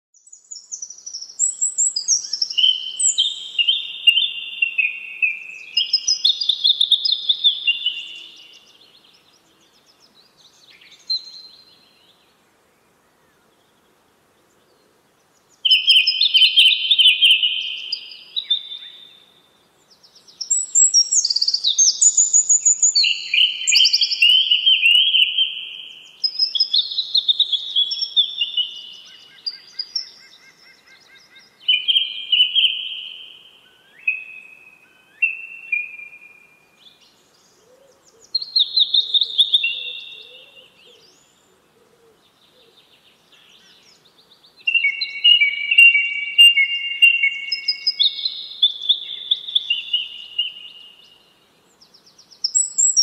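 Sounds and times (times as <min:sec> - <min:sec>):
songbird singing: 0:00.1 - 0:53.0.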